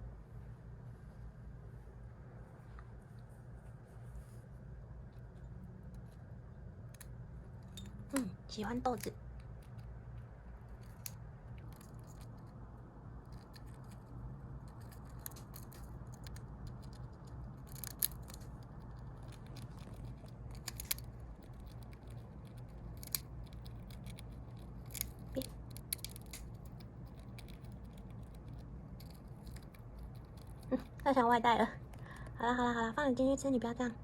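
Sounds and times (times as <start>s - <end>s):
faint steady hum: 0.0s - 34.0s
hamster crunching dry food: 5.0s - 32.4s.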